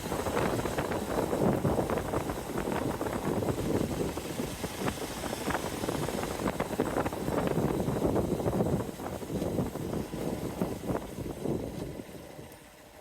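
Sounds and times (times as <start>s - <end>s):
wind noise: 0.0s - 12.5s.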